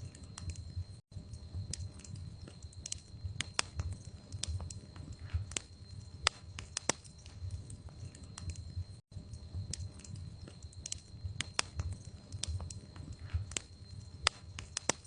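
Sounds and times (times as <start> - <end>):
low rumble of burning logs: 0.0 - 15.0
wood fire crackling: 0.0 - 15.0
sharp pops and snaps: 1.7 - 8.6, 9.7 - 15.0.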